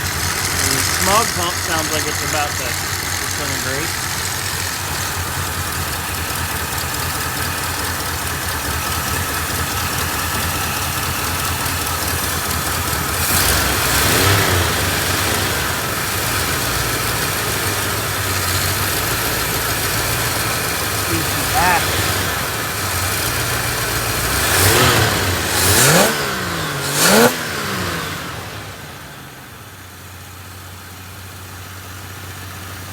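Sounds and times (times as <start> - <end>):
car engine idling rough: 0.0 - 32.9.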